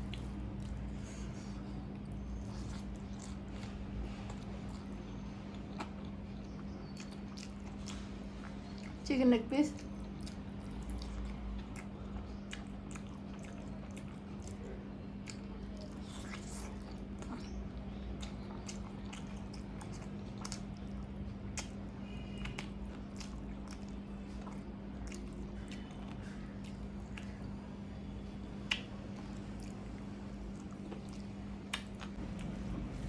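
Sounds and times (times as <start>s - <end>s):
chewing and biting: 0.0s - 9.0s, 9.7s - 33.0s
steady low hum: 0.0s - 33.0s.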